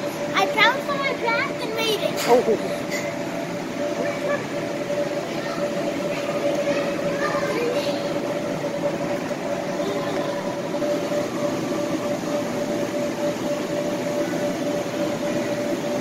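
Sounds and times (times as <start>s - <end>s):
electric air blowers droning: 0.0s - 16.0s.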